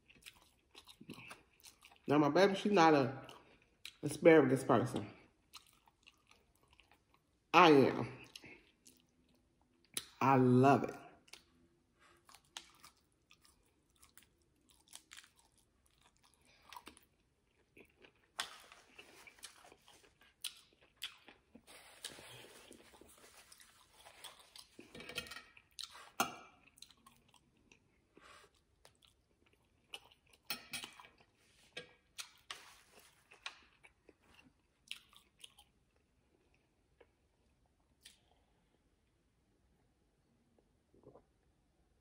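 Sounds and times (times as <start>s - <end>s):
chewing and crunching vegetables: 0.0s - 10.2s, 10.8s - 38.7s.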